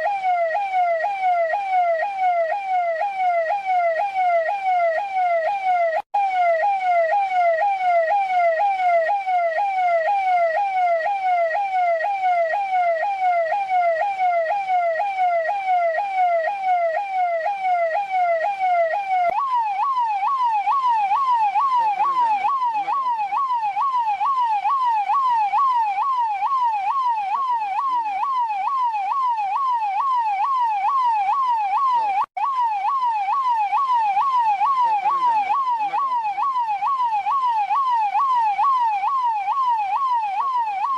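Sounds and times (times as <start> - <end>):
police car siren sweeping: 0.0 - 40.9.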